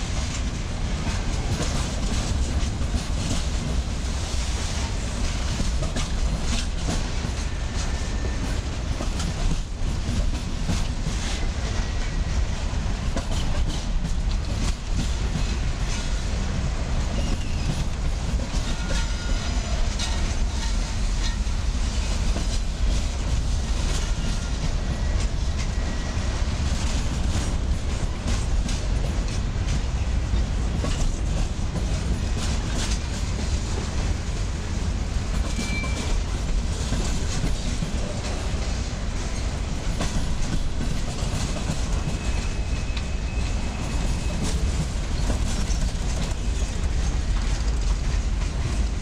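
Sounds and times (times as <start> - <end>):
train low rumble: 0.0 - 49.0
wheels clickety-clack over rail joints: 0.0 - 49.0.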